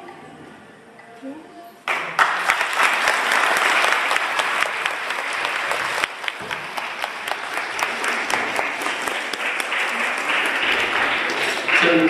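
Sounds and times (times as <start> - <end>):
audience applauding: 1.9 - 12.0.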